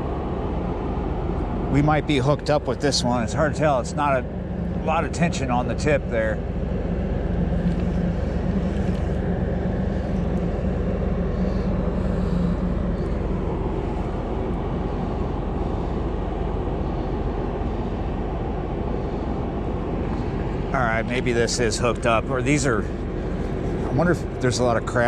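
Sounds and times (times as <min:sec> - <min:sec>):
ship diesel engines droning: 0:00.0 - 0:25.0.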